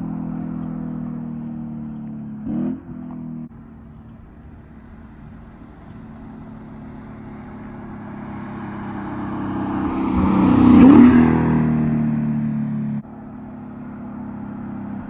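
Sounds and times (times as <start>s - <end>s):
car engine passing by: 0.0s - 15.0s.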